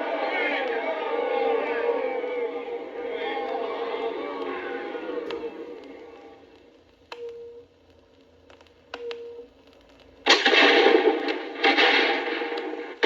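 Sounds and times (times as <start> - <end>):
radio static crackling: 0.0 - 13.0.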